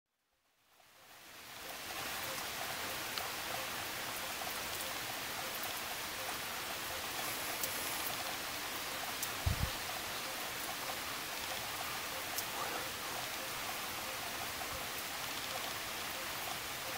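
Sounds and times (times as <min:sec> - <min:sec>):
rain falling: 0:00.4 - 0:16.9.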